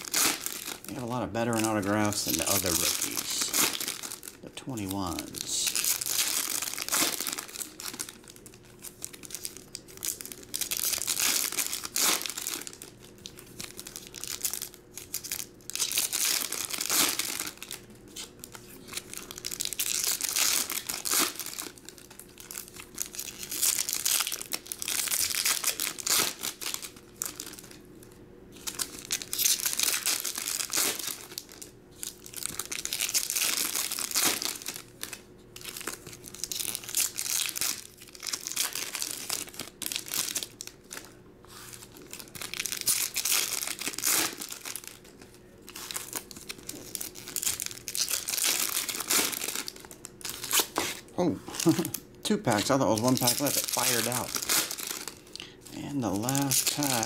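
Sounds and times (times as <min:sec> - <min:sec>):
foil wrappers crinkling and tearing: 0:00.0 - 0:57.0.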